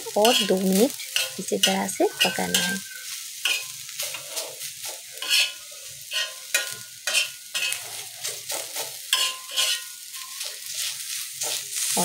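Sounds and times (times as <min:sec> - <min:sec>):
oil sizzling: 0:00.0 - 0:12.0
spatula scraping a pan: 0:00.1 - 0:12.0.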